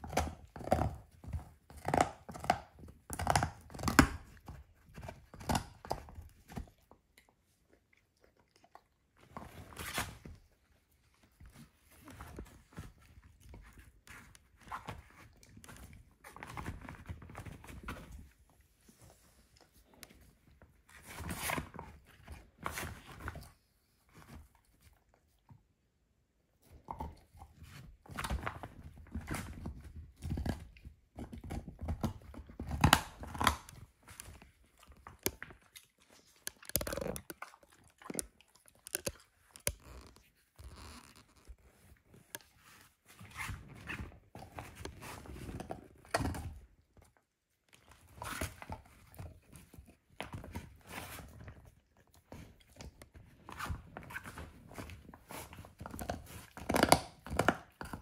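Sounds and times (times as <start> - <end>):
dog gnawing a bone: 0.0 - 18.4, 26.6 - 58.0.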